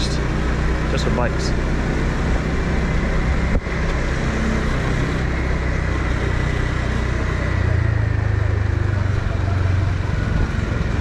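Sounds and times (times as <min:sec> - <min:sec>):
scooter engine hum: 0:00.0 - 0:11.0
wind and road noise: 0:00.0 - 0:11.0.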